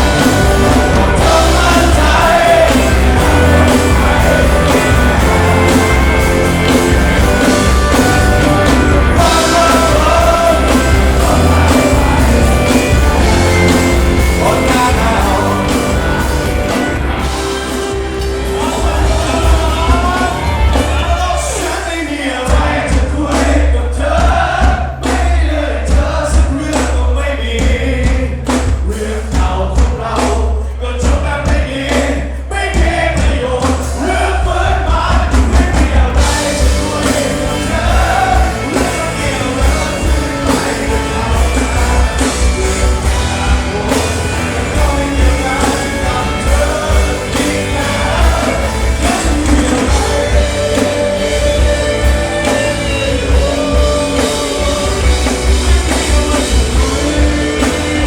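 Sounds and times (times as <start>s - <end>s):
heavy steady bass: 0.0s - 58.0s
live band music with singing: 0.0s - 58.0s.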